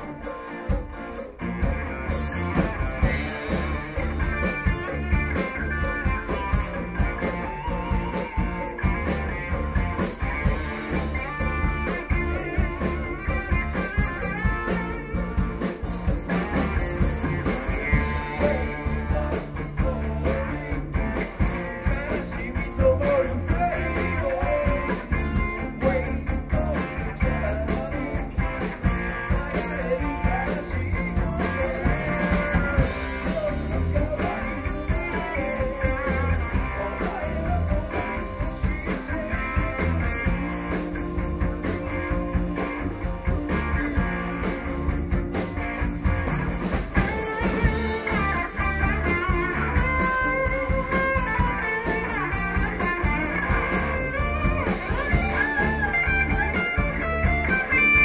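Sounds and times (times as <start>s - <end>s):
rock song with guitar and vocals: 0.0s - 58.0s.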